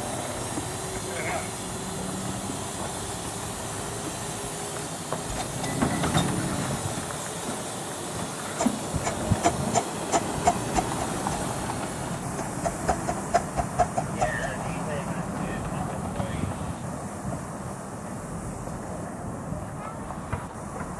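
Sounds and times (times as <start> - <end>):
train wheels clicking: 0.0 - 18.2, 19.7 - 20.9
steam locomotive hissing: 0.0 - 20.9.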